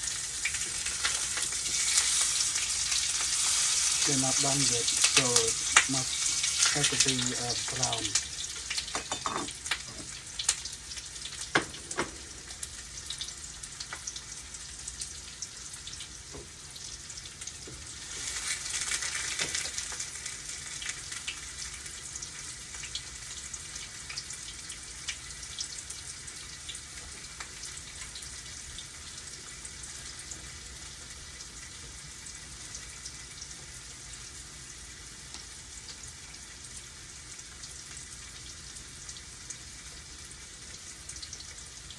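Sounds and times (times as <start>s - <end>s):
tofu sizzling in hot oil: 0.0s - 41.9s.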